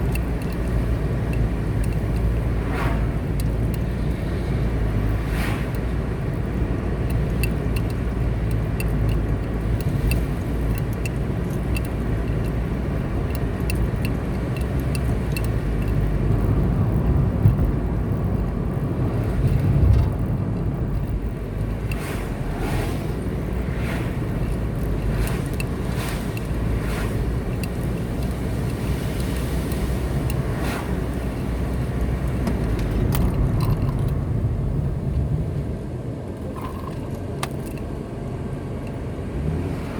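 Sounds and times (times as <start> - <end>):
faint regular ticking: 0.0 - 34.2
vehicles swishing past: 0.0 - 35.7, 39.3 - 39.9
car engine and tyres rumbling: 0.0 - 39.9.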